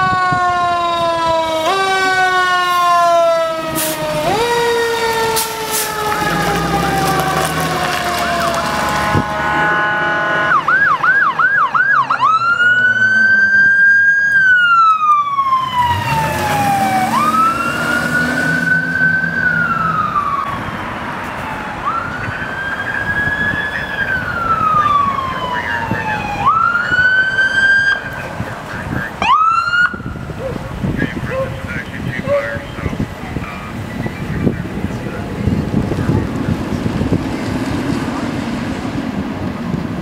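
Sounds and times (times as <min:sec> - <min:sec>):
siren wailing: 0:00.0 - 0:34.2
siren yelp: 0:00.0 - 0:34.5.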